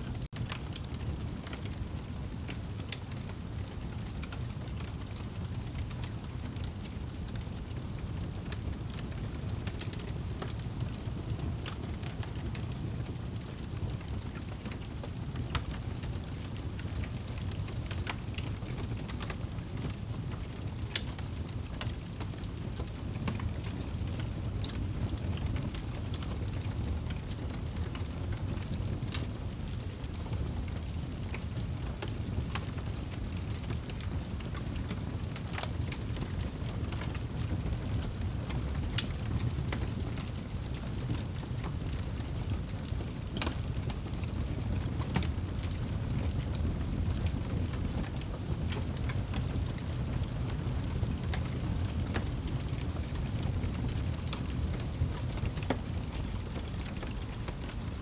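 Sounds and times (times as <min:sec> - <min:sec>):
fire rumbling: 0:00.0 - 0:58.0
fire crackling and popping: 0:00.1 - 0:58.0.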